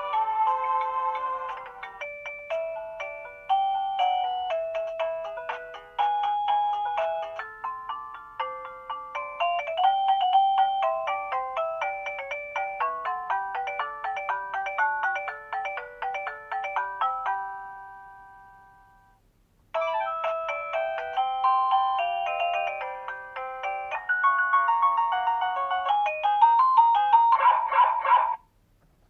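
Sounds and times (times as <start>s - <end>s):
electronic doorbell chime melody: 0.0s - 19.2s, 19.8s - 27.4s.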